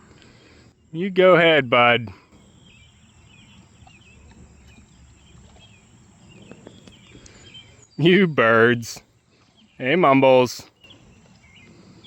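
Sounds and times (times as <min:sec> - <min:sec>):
soft bird chirps: 0:02.3 - 0:12.0.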